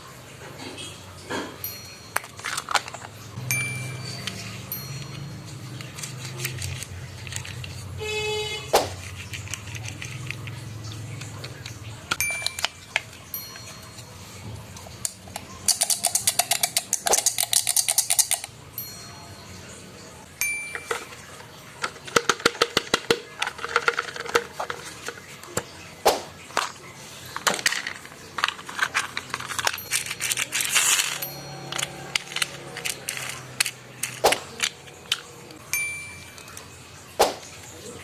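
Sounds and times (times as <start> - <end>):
plastic toys clattering: 0.0 - 18.8, 20.6 - 38.0.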